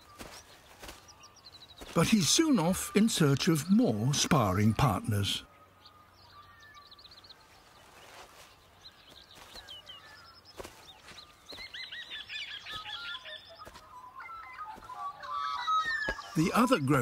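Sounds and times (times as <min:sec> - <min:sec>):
birds chirping: 0:00.0 - 0:17.0
faint outdoor ambience: 0:00.0 - 0:17.0.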